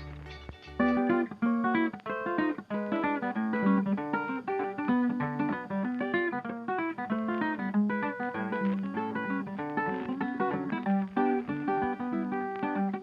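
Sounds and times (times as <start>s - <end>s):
plucked acoustic guitar tune: 0.0s - 13.0s.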